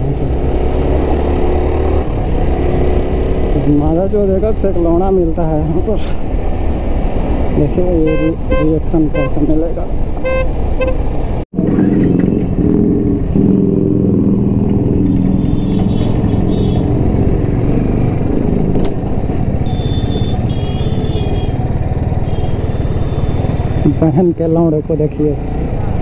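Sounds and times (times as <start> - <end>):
motorcycle engine drone: 0.0 - 26.0.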